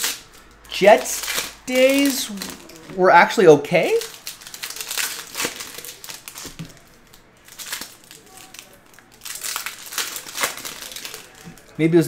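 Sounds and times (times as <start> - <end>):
foil wrappers crinkling: 0.0 - 11.8.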